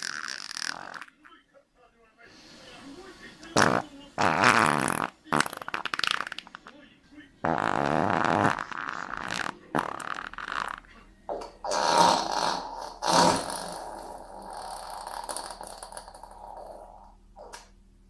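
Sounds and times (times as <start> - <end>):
fart sounds: 0.0 - 1.3, 3.5 - 6.7, 7.4 - 17.7.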